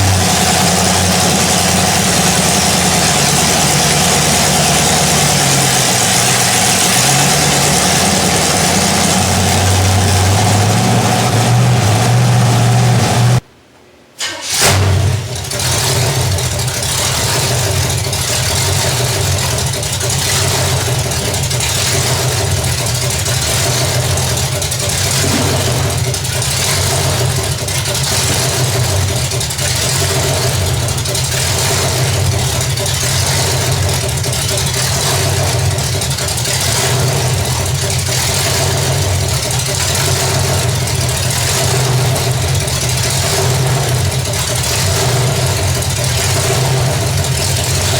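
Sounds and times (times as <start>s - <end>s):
loud engine idling: 0.0s - 13.4s, 14.9s - 47.9s.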